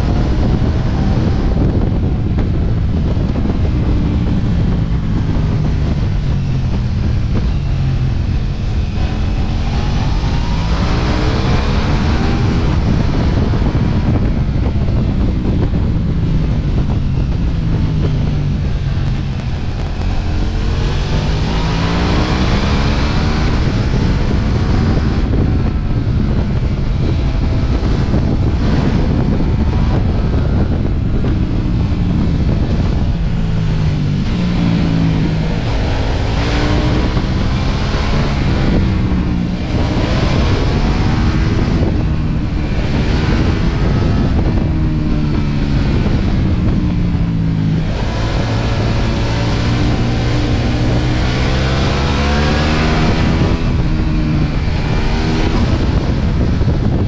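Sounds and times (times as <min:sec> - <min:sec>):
motorcycle engine accelerating: 0:00.0 - 0:57.0
wind rush: 0:00.0 - 0:57.0.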